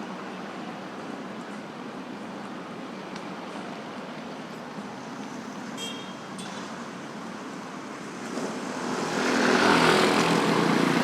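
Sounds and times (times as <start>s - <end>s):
hum of passing vehicles: 0.1s - 11.0s.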